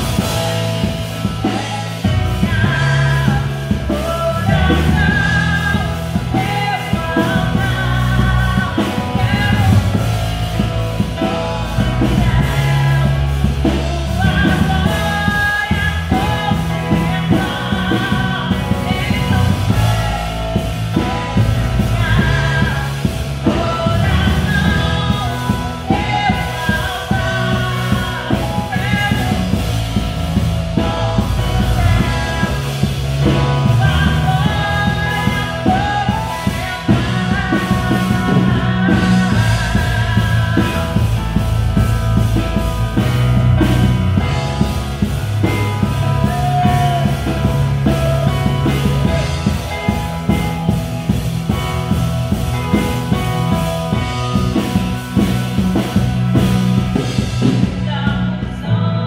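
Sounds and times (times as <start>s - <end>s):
woman singing into microphone: 0.0s - 52.0s, 52.7s - 59.0s
steady beat: 0.0s - 57.7s
keyboard playing: 0.0s - 59.0s.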